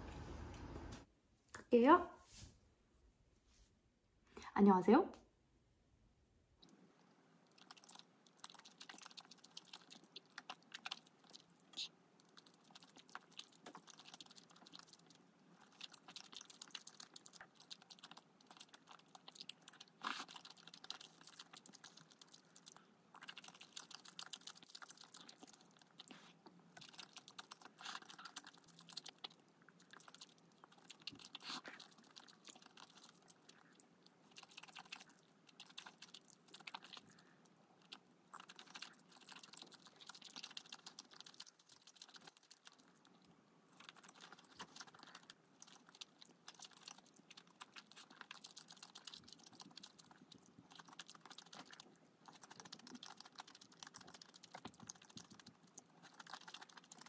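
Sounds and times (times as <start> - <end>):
chewing and crunching food: 6.6 - 57.0.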